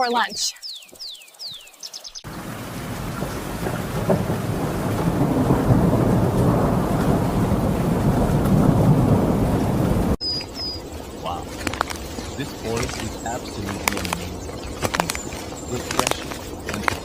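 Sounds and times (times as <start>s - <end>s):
heavy rain pouring: 2.2s - 10.2s, 10.9s - 17.0s
low rumble of thunder: 2.2s - 17.0s.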